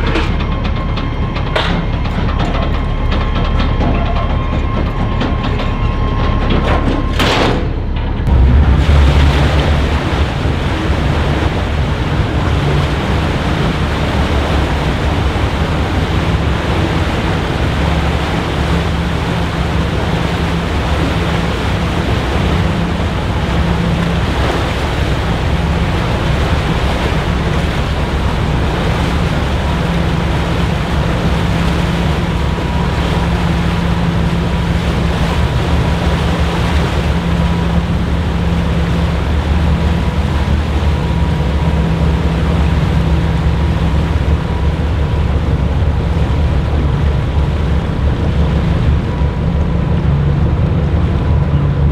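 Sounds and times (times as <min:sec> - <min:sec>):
churned water rushing: 0:00.0 - 0:51.9
ship engine drone: 0:00.0 - 0:51.9
wind: 0:00.0 - 0:51.9.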